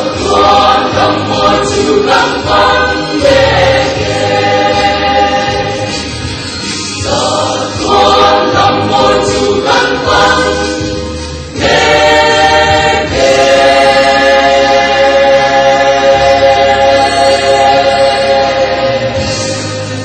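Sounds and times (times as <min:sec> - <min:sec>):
choir singing a hymn in harmony: 0:00.0 - 0:06.2, 0:07.0 - 0:19.9.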